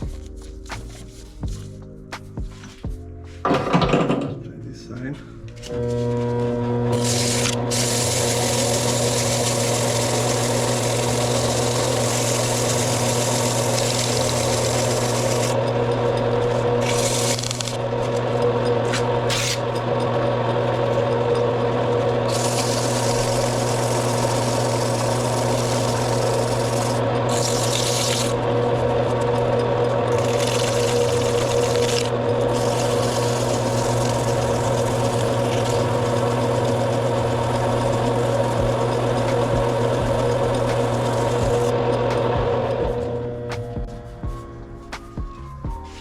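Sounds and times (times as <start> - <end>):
bench motor humming: 5.5 - 44.2
wire wheel scrubbing metal: 5.6 - 43.4.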